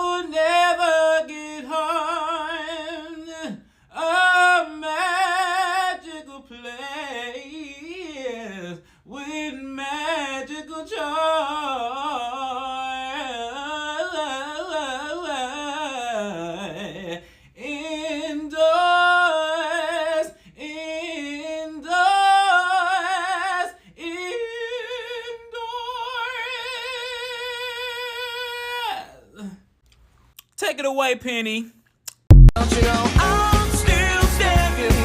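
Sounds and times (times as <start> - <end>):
person singing with vibrato: 0.0 - 29.6, 32.6 - 35.0.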